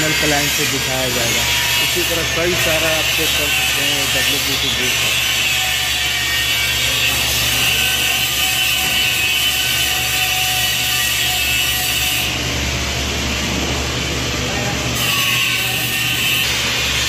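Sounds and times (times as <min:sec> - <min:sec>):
angle grinder grinding steel: 0:00.0 - 0:12.4, 0:14.9 - 0:17.0.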